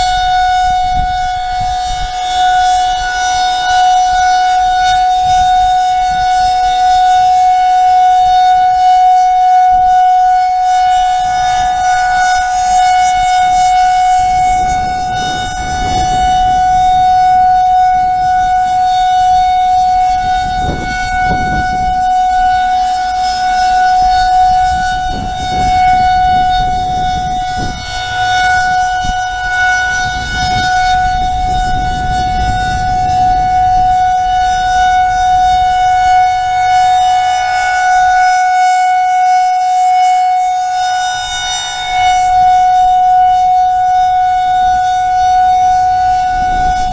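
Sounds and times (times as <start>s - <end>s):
tornado warning siren steady tone: 0.0s - 46.9s.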